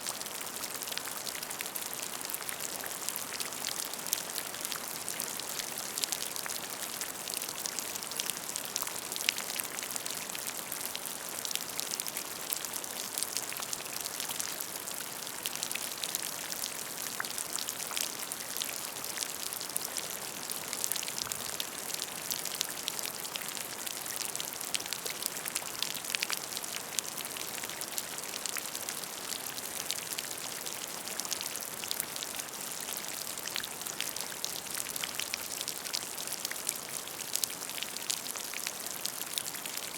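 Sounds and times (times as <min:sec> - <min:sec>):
rain falling into a puddle: 0:00.0 - 0:39.9.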